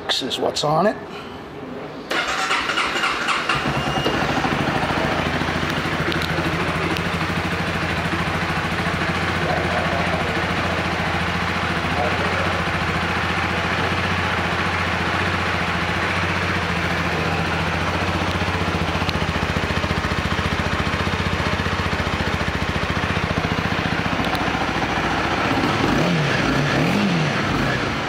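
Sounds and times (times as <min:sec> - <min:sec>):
motorcycle engine idling: 0:02.2 - 0:28.0.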